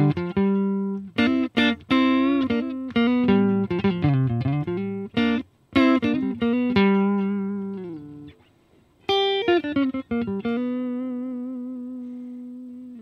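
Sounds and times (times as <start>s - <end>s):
clean electric guitar blues notes: 0.0s - 13.0s.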